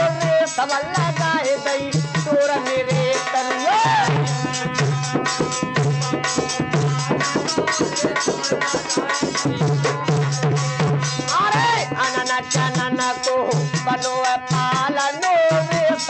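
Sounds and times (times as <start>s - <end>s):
dholak rhythm: 0.0s - 16.0s
harmonium chords: 0.0s - 16.0s.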